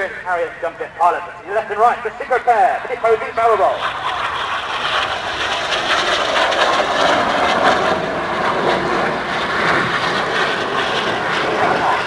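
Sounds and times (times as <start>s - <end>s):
jets flying past: 0.0s - 12.0s.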